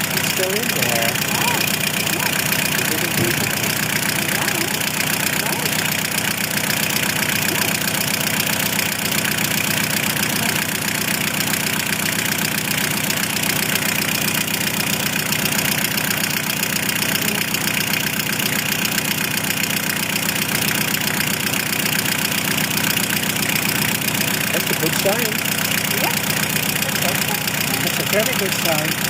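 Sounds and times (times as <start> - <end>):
van engine running: 0.0 - 29.0.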